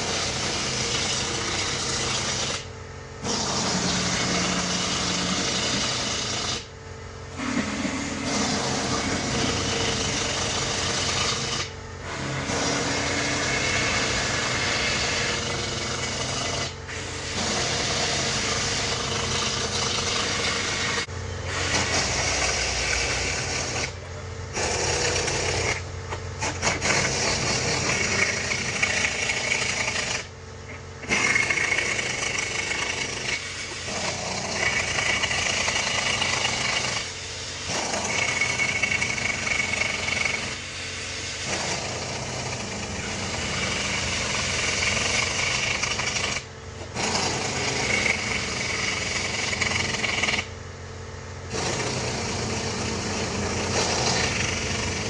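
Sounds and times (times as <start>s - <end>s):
air impact wrench hammering: 0.0s - 6.7s, 7.3s - 50.6s, 51.5s - 55.0s.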